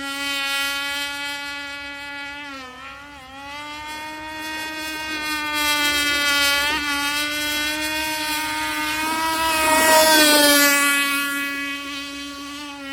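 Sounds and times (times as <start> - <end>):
motorboat engine whining: 0.0 - 12.9.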